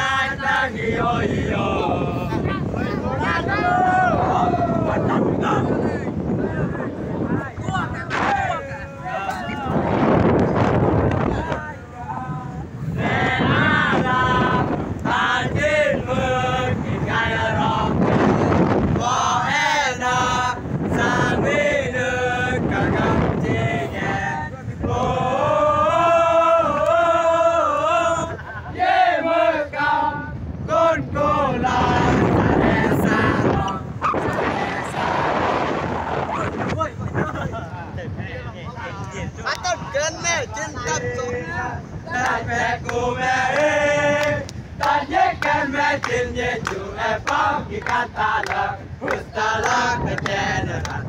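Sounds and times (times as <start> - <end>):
young men chanting in unison: 0.0 - 36.5, 37.8 - 51.0.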